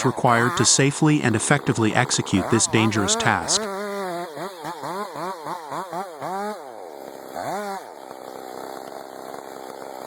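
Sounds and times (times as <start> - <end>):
chainsaw engine revving: 0.0 - 10.0.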